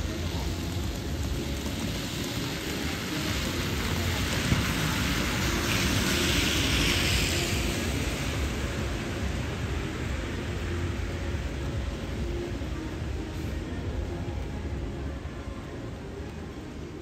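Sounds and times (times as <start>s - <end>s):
rain on wet road: 0.0s - 15.0s.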